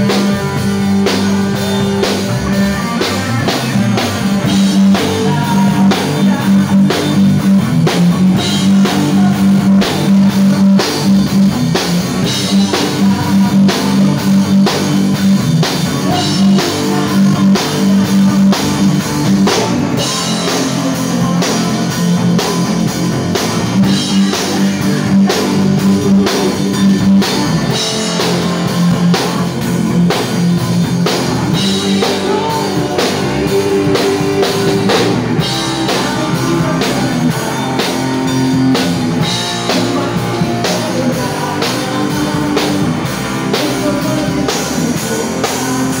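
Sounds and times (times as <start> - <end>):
drum kit beat: 0.0 - 46.0
electric guitar: 0.0 - 46.0.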